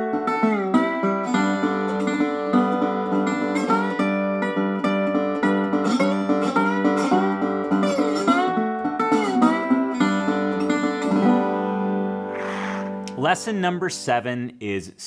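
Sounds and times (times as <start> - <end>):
slide guitar melody: 0.0 - 14.3.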